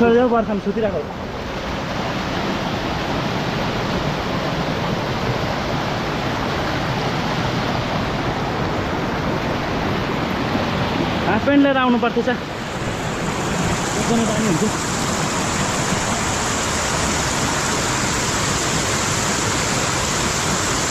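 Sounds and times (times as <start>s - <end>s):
stream rushing over rocks: 0.0s - 20.9s.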